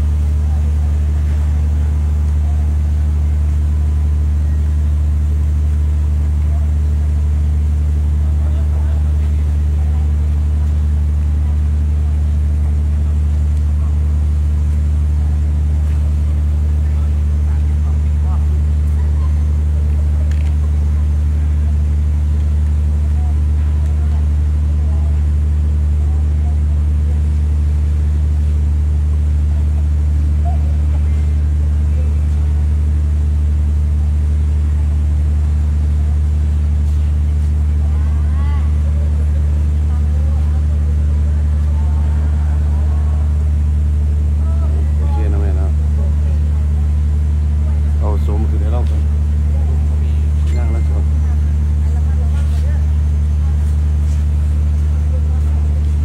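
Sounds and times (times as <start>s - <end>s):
faint voices: 0.0s - 56.0s
loud steady low hum: 0.0s - 56.0s.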